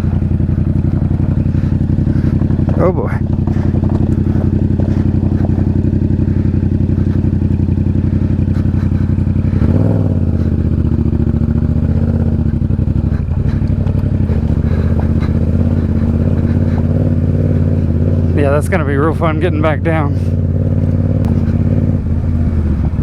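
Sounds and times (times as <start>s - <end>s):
motorcycle engine climbing hill: 0.0s - 23.0s.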